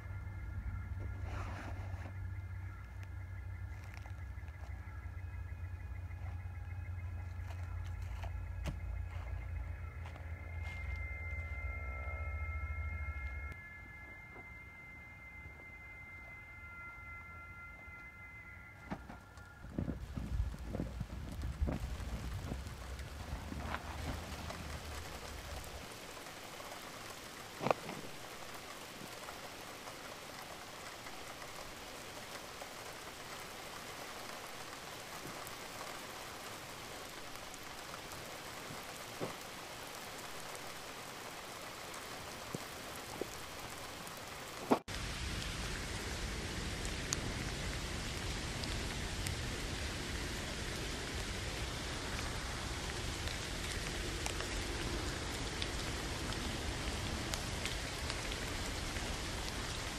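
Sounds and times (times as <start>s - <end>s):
rain falling on a tent: 0.0s - 18.2s, 18.8s - 59.9s.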